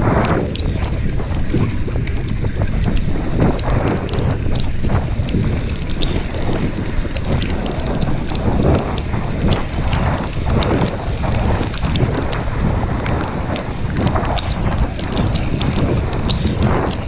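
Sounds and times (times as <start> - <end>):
bicycle clicks and rattles: 0.0 - 17.0
wind buffeting microphone: 0.0 - 17.0.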